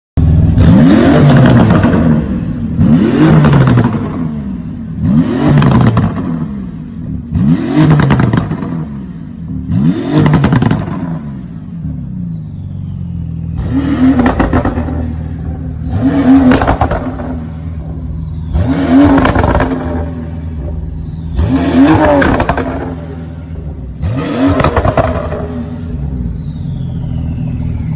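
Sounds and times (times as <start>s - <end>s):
car engine revving: 0.2s - 27.9s.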